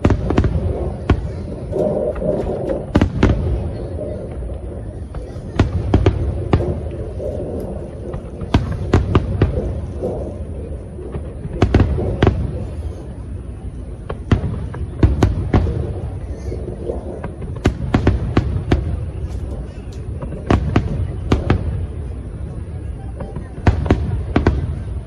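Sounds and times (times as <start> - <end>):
fireworks sharp bangs: 0.0 - 25.0
low rumble of fireworks bursts: 0.0 - 25.0.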